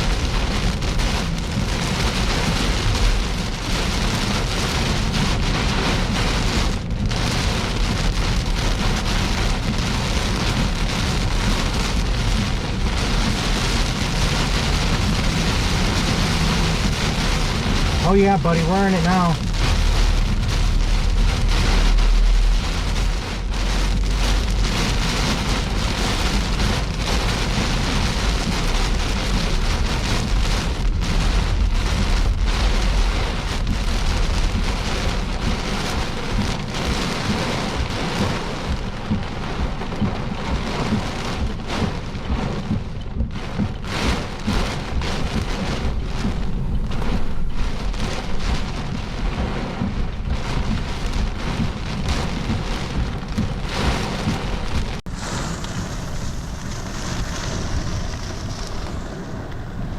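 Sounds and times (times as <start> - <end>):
deep low rumble: 0.0 - 59.9
heavy rain on car roof: 0.0 - 59.9.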